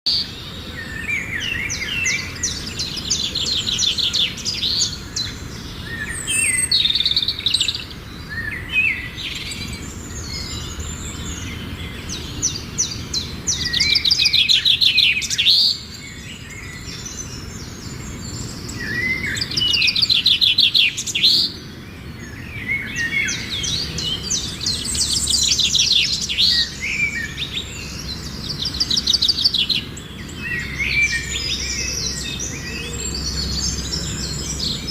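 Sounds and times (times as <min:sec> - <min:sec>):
birds singing chirps and trills: 0:00.0 - 0:34.9.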